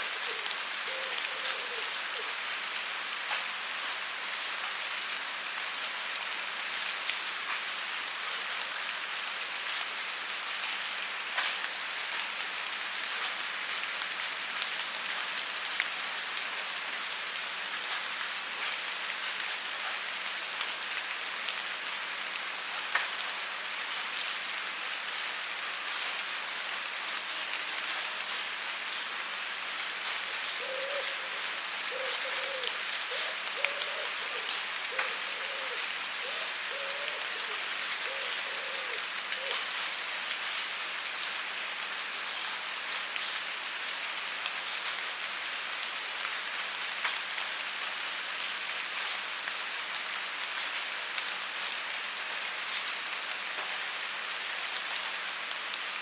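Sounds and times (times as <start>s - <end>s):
rain falling on surface: 0.0s - 56.0s.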